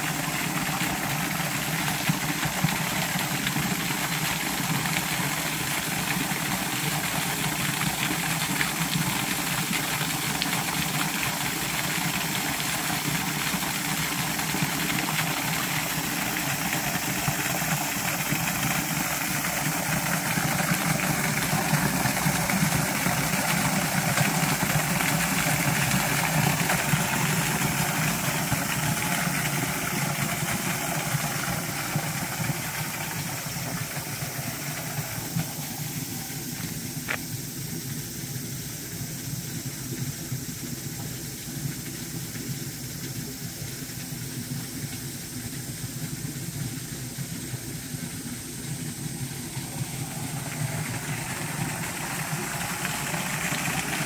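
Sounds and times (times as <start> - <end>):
waterfall splashing into pool: 0.0 - 54.0.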